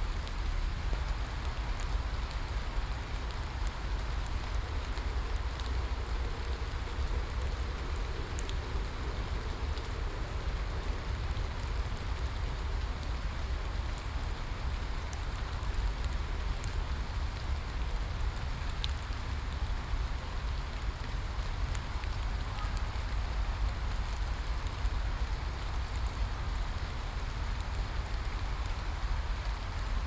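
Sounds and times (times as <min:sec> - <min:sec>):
rain falling: 0:00.0 - 0:30.0
raindrops ticking close by: 0:00.0 - 0:30.0.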